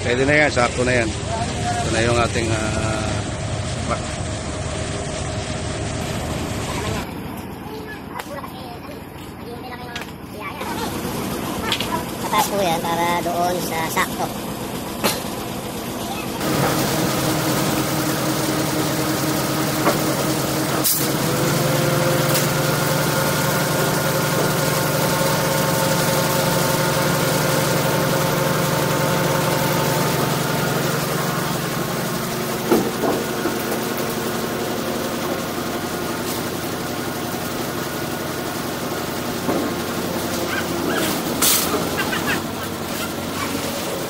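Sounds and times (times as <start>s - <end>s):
truck engine running: 0.0s - 44.0s.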